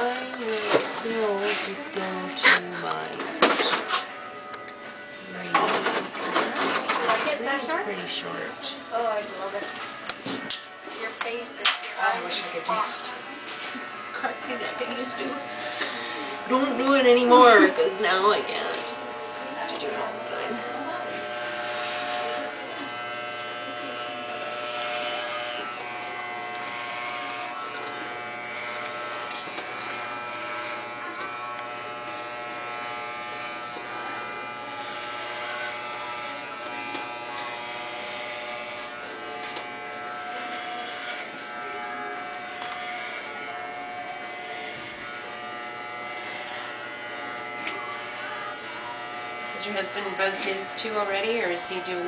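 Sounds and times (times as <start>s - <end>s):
electric hair clippers buzzing: 0.0s - 52.0s
clippers cutting hair hiss: 0.1s - 7.4s, 9.6s - 52.0s.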